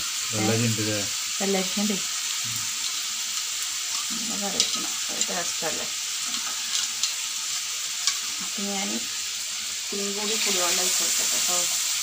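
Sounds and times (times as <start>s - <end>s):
curry sizzling in pan: 0.0s - 12.0s.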